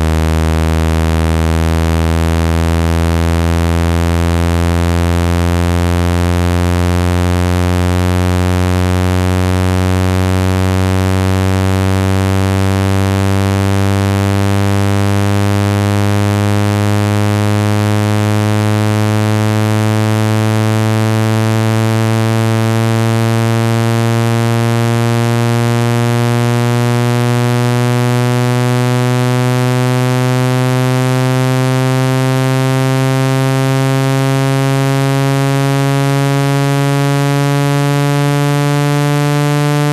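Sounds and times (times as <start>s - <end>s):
low buzzing tone rising in pitch: 0.0s - 39.9s.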